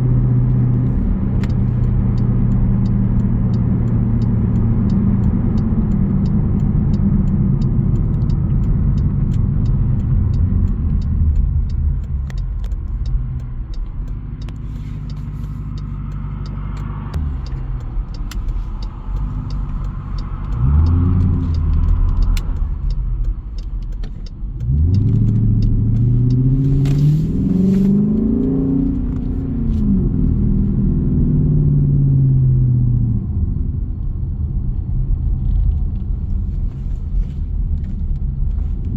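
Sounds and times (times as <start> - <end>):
car exhaust rumbling: 0.0 - 38.9.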